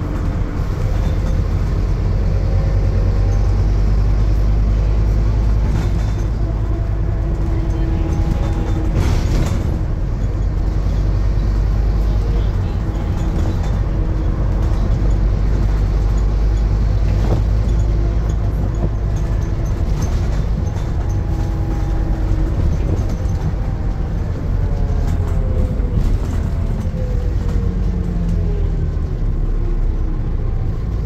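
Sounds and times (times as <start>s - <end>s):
bus engine drone: 0.0s - 31.0s
road rumble: 0.0s - 31.0s.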